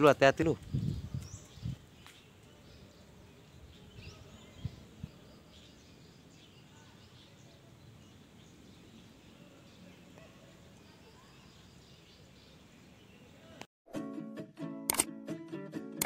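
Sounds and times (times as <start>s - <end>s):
small birds chirping: 0.0s - 13.7s.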